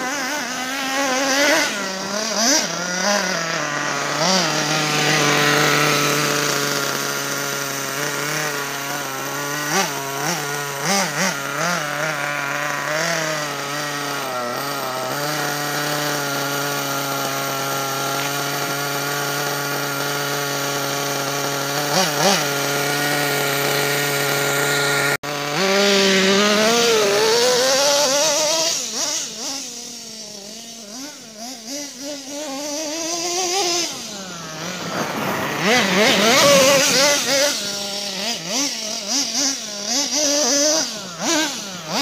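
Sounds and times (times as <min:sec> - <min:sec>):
small rc truck engine buzzing and revving: 0:00.0 - 0:42.0.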